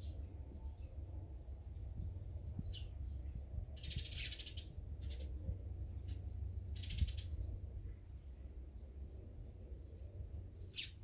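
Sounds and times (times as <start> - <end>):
songbirds chirping: 0.0 - 11.0
steady low rumble: 0.0 - 11.0.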